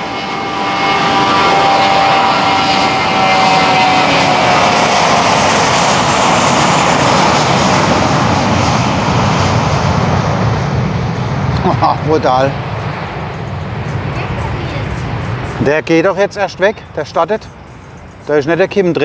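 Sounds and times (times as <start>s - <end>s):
jet engine roar: 0.0s - 19.0s
jet engine whine: 0.0s - 19.0s.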